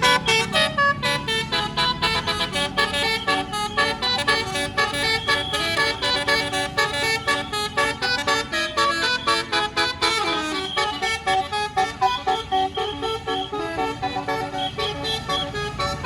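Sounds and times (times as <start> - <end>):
bus horn playing fast melody: 0.0 - 16.0.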